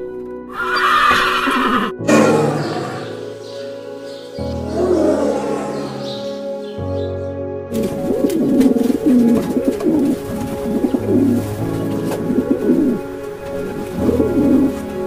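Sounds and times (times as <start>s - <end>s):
soft background music: 0.0s - 15.0s
pigeon cooing: 0.7s - 15.0s.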